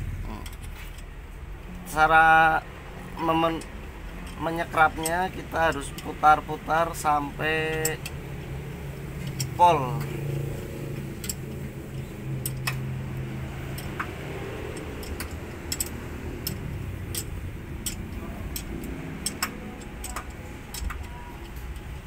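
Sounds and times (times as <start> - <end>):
socket wrench clicking: 3.2 - 22.0.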